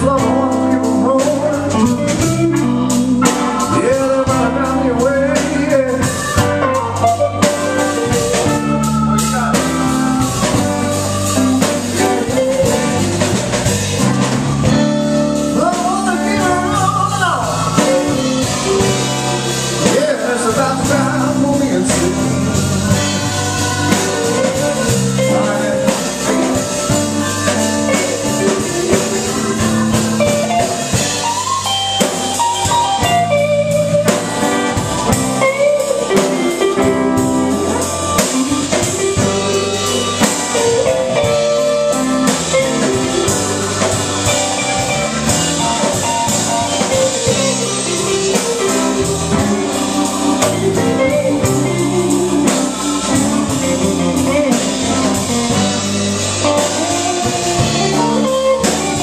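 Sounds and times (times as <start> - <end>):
drum kit: 0.0 - 59.0
electric guitar bending notes: 0.0 - 59.0.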